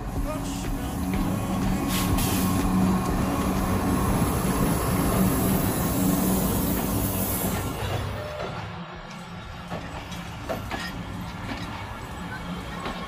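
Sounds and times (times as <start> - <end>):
diesel locomotive engine drone: 0.0 - 13.0
train wheels rolling on rails: 0.0 - 13.0.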